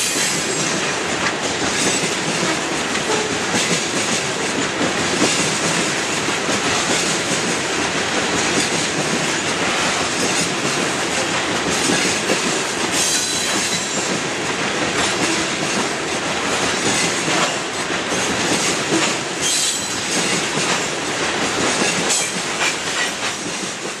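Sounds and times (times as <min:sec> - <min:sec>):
train wheels clattering over rail joints: 0:00.0 - 0:24.0.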